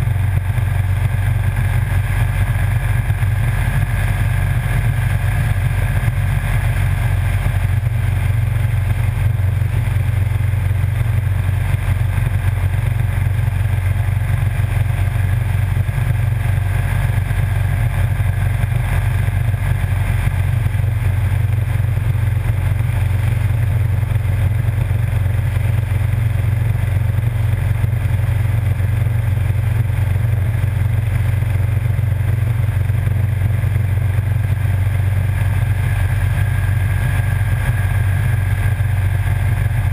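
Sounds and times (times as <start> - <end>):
motorcycle engine drone: 0.0 - 39.9
wind and road noise: 0.0 - 39.9.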